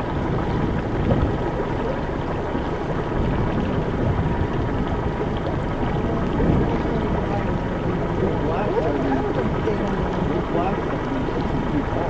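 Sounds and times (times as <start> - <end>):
motorboat rumble and wash: 0.0 - 12.0.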